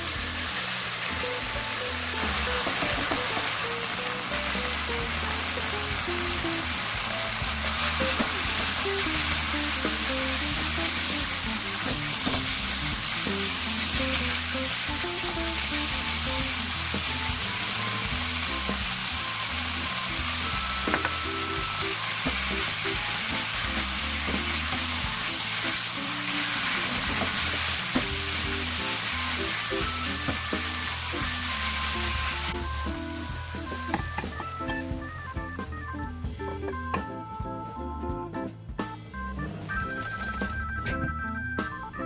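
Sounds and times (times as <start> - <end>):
food sizzling in a wok: 0.0 - 36.3
soft background music: 0.0 - 42.0.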